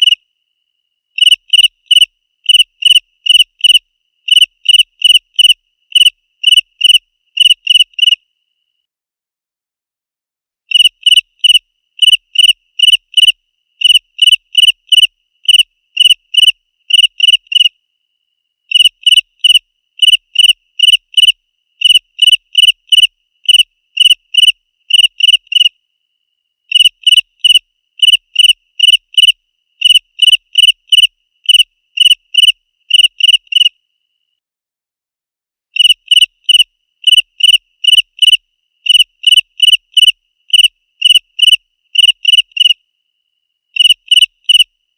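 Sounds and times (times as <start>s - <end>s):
cricket chirping: 0.0s - 8.9s, 10.7s - 34.4s, 35.8s - 44.9s.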